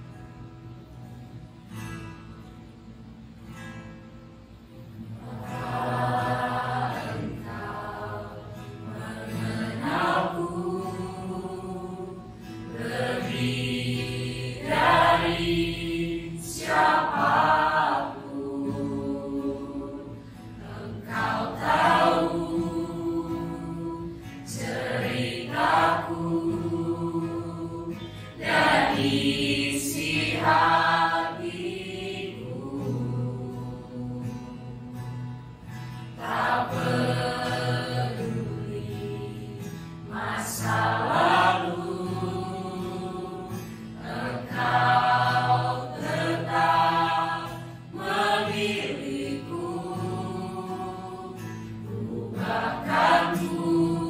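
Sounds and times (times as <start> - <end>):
acoustic guitar: 0.0 - 54.0
mixed choir singing: 5.0 - 35.1, 35.9 - 54.0.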